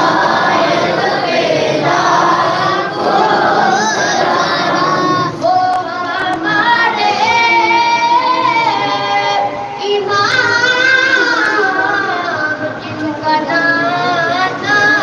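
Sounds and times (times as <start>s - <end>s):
high voice singing a chant: 0.0s - 15.0s.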